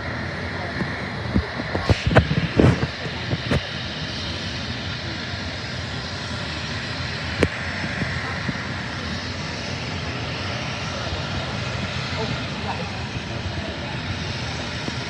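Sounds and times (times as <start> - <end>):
aircraft engine noise: 0.0 - 15.0.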